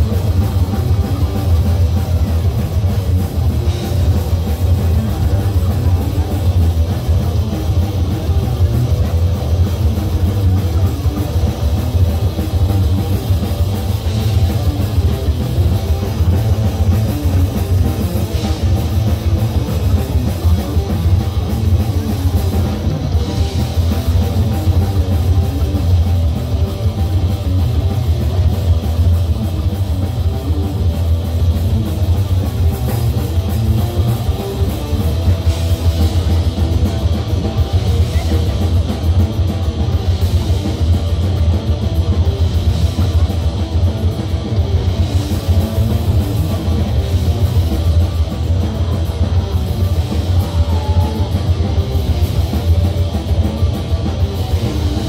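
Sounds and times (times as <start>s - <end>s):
distorted electric guitars: 0.0s - 55.0s
pounding drum kit: 0.0s - 55.0s.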